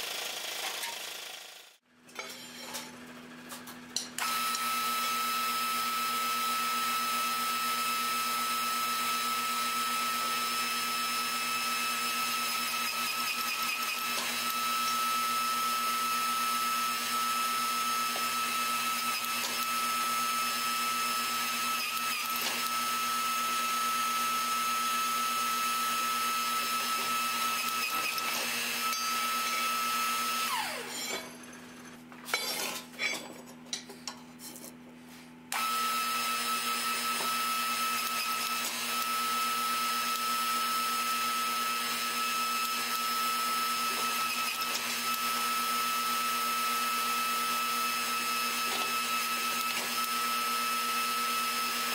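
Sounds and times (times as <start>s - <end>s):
electric motor whine: 4.2s - 31.1s, 35.5s - 51.9s.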